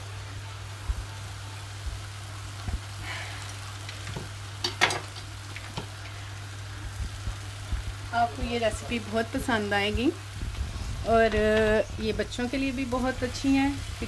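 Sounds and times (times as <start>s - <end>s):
steady low hum: 0.0s - 4.6s, 5.2s - 14.0s
chicken sizzling in a pan: 0.0s - 14.0s.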